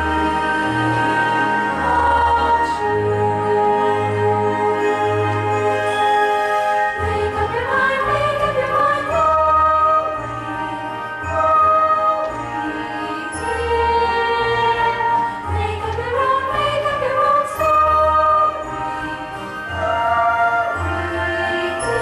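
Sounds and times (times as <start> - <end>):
girls chorus singing: 0.0 - 4.9, 7.0 - 10.5, 11.2 - 22.0
instrumental accompaniment: 0.0 - 22.0.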